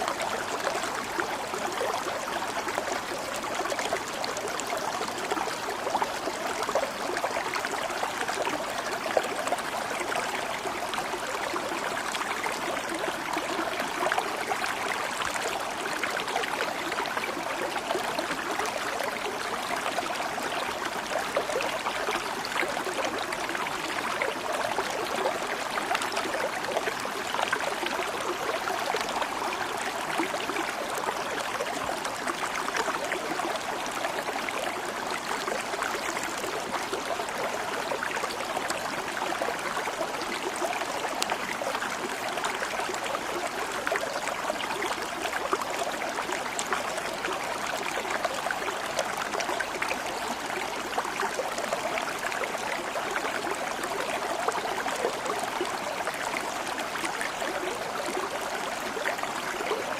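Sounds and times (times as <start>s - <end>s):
water flowing in a stream: 0.0s - 59.9s.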